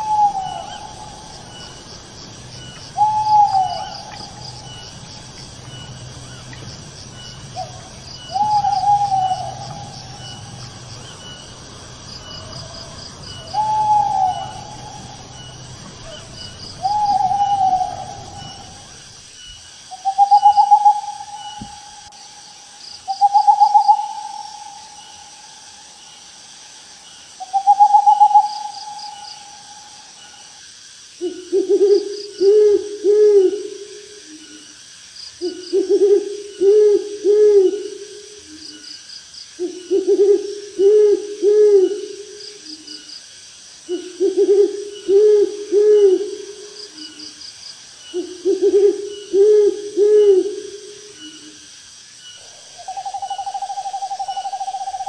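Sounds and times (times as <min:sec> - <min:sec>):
owl long hoots: 0:00.0 - 0:01.9, 0:02.5 - 0:06.5, 0:07.5 - 0:11.5, 0:12.2 - 0:19.1, 0:19.9 - 0:22.4, 0:23.1 - 0:25.9, 0:27.4 - 0:30.6, 0:31.2 - 0:34.6, 0:35.4 - 0:38.8, 0:39.6 - 0:42.9, 0:43.9 - 0:47.4, 0:48.1 - 0:51.6, 0:52.4 - 0:55.0
faint insects chirping: 0:00.0 - 0:55.0.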